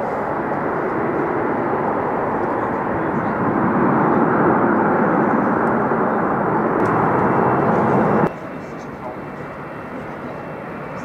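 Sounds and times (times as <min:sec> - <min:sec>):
jet airliner engine noise: 0:00.0 - 0:11.0.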